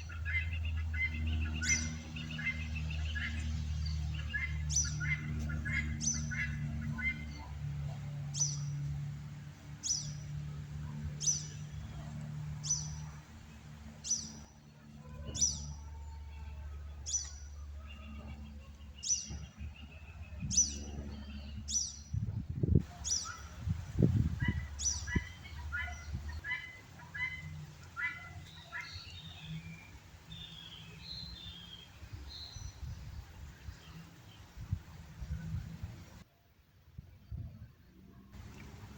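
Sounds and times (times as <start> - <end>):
birds chirping: 0.0 - 35.6.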